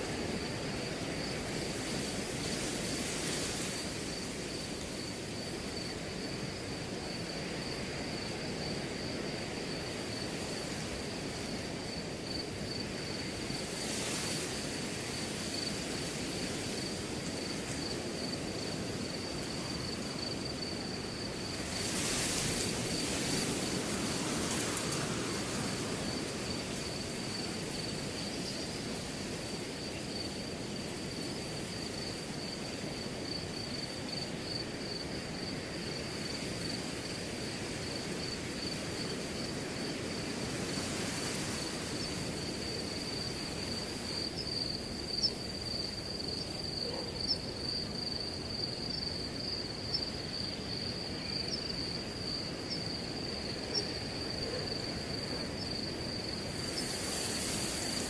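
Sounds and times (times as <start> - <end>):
crickets trilling: 0.0 - 58.0
wind rustling grass: 0.0 - 58.0.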